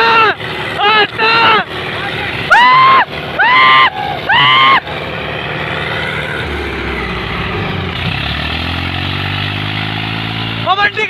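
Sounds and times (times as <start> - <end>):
tractor diesel engines labouring: 0.0 - 11.0.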